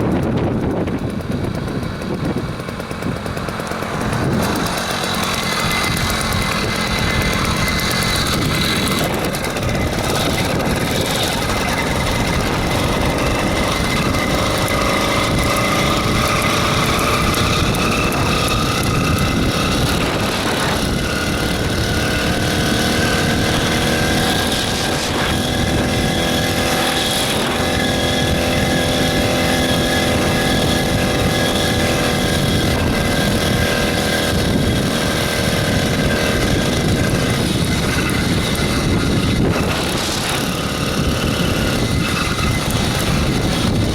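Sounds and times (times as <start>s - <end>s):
motorized bicycle engine running: 0.0s - 43.9s.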